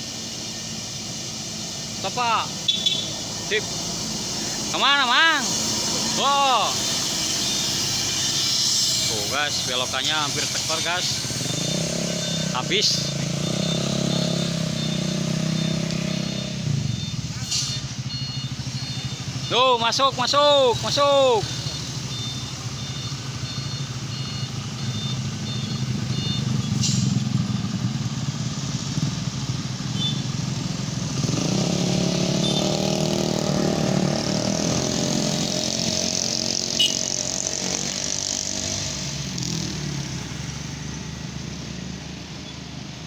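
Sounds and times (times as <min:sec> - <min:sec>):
truck engine labouring uphill: 0:00.0 - 0:43.0.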